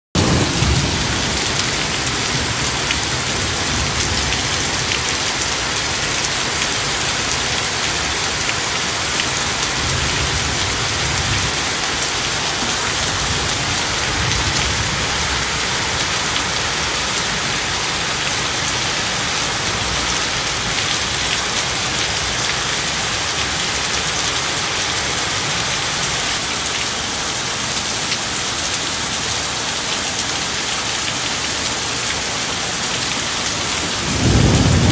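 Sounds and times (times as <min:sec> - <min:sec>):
heavy rain on pavement: 0:00.1 - 0:34.9.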